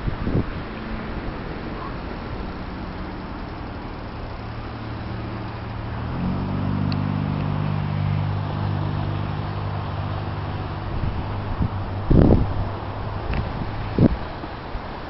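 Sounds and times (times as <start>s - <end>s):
storm wind hiss: 0.0s - 15.0s
vehicle engine running: 0.0s - 15.0s.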